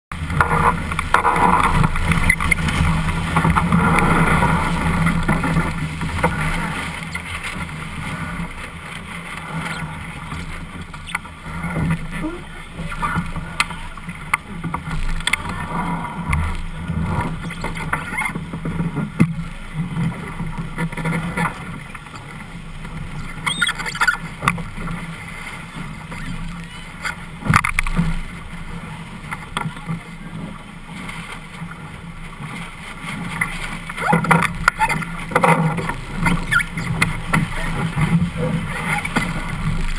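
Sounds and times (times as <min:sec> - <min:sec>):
water rushing along hull: 0:00.1 - 0:39.9.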